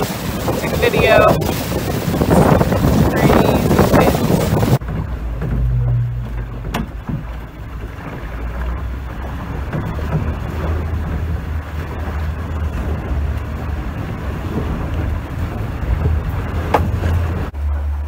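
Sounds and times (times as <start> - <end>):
wind buffeting microphone: 0.0 - 17.5
water rushing along hull: 0.0 - 18.0.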